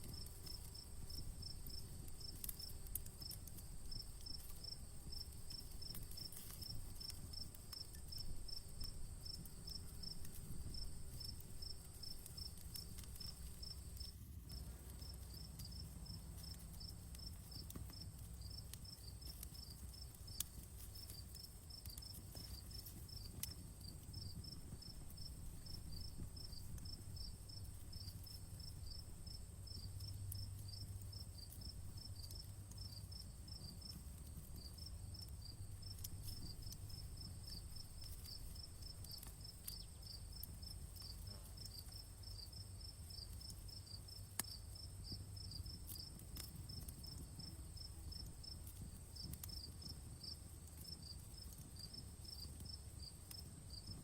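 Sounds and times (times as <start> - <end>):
crickets chirping: 0.0 - 54.0
fire popping: 0.0 - 54.0
wood fire crackling: 0.0 - 54.0
high insect trill: 0.1 - 54.0.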